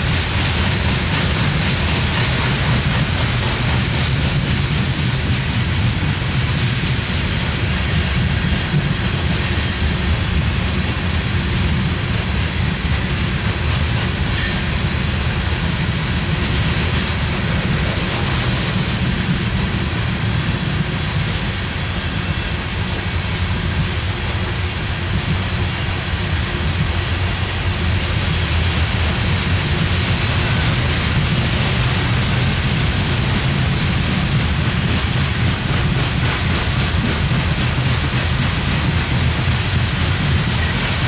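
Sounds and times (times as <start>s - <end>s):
steel wheels rumbling on rail: 0.0s - 41.0s.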